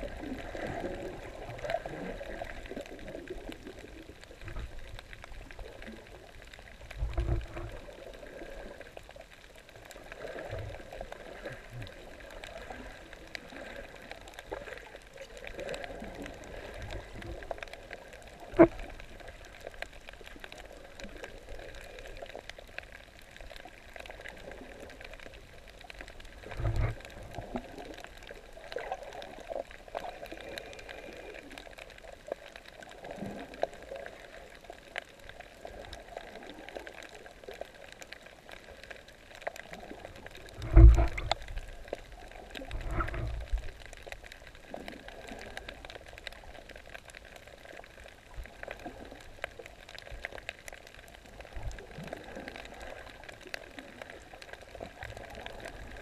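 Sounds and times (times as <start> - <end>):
underwater gurgling and bubbling: 0.0 - 56.0.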